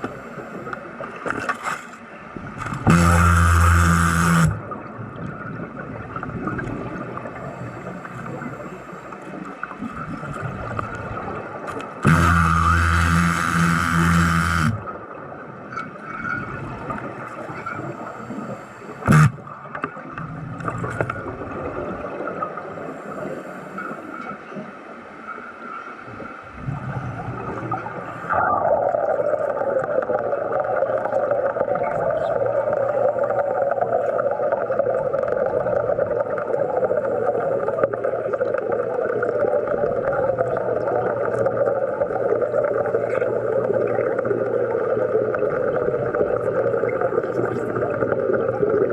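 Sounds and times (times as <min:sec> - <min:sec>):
underwater hum: 0:00.0 - 0:48.9.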